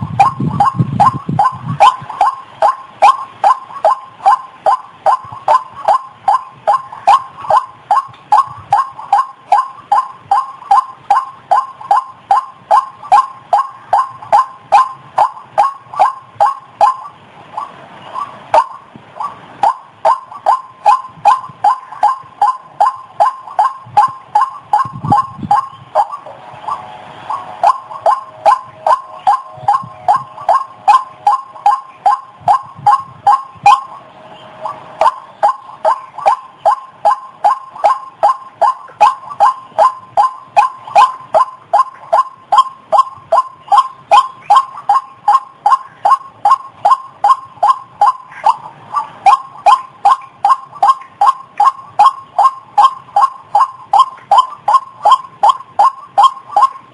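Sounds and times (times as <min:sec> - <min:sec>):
waterhen harsh call: 0:00.0 - 0:56.9.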